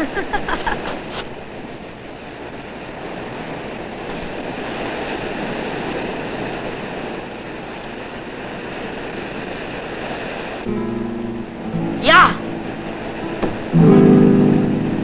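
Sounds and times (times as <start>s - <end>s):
ocean waves rushing: 0.0s - 15.0s.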